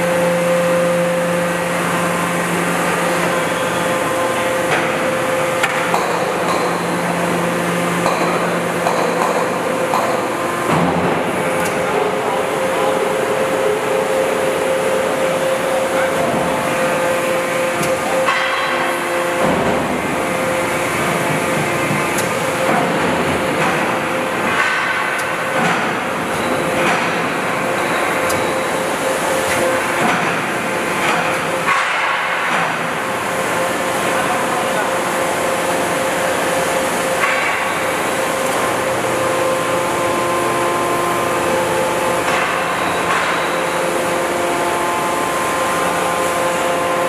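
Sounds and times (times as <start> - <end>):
hydraulic unit whine: 0.0 - 47.0
machine noise: 0.0 - 47.0.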